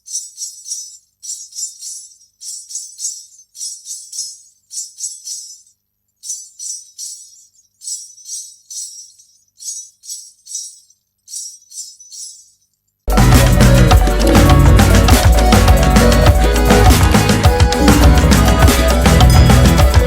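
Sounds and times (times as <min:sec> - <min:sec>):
ankle bells jingling: 0:00.0 - 0:20.0.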